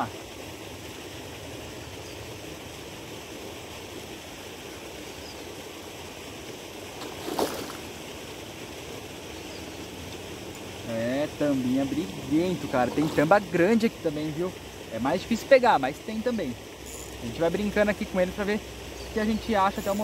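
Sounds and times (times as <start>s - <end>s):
fountain water spraying: 0.0s - 20.0s.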